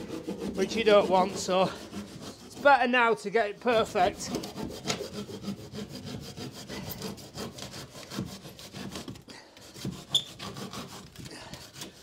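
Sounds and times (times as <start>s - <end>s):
handsaw cutting plasterboard: 0.0s - 12.0s.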